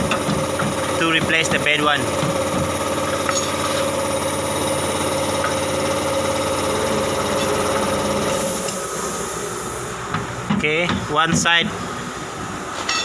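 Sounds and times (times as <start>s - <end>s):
machine motor drone: 0.0s - 10.5s.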